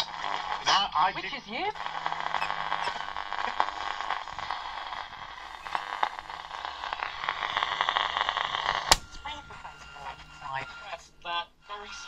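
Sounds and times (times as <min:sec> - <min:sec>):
radio crackles and clicks: 0:00.0 - 0:12.0
radio static hiss: 0:00.0 - 0:12.0.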